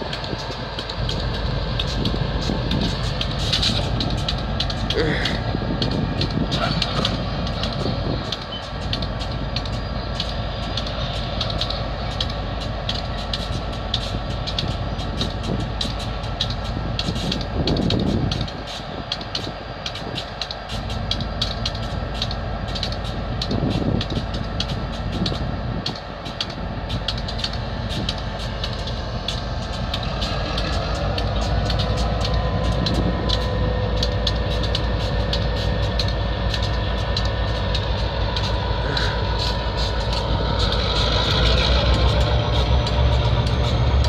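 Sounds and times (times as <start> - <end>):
diesel locomotive engine drone: 0.0 - 44.0
light ticking: 0.0 - 44.0.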